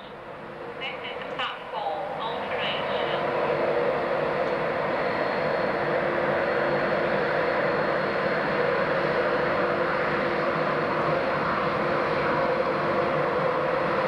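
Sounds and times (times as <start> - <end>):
electric locomotive rushing hum: 0.0 - 14.0
faint steady whine: 0.0 - 14.0.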